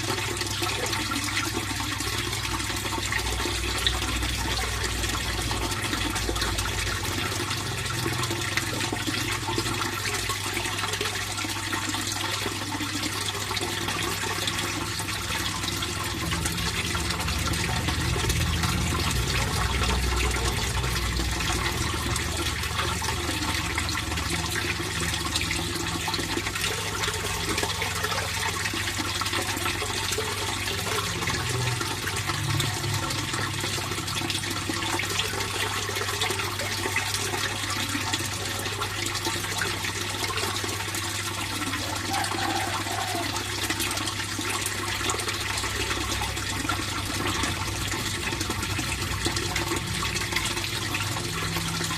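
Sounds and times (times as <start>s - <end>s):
water flowing in a pond: 0.0s - 51.9s.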